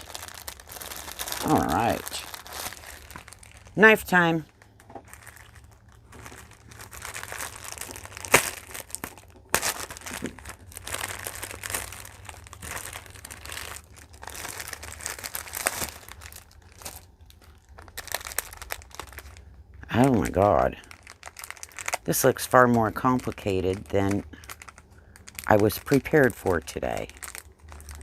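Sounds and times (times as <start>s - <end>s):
plastic packaging crinkling: 0.0s - 28.0s.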